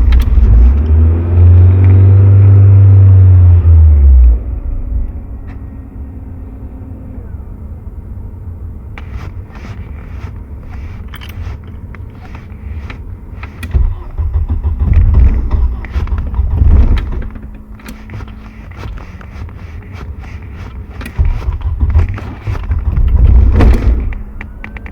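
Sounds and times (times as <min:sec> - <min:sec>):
car engine rumble: 0:00.0 - 0:24.9.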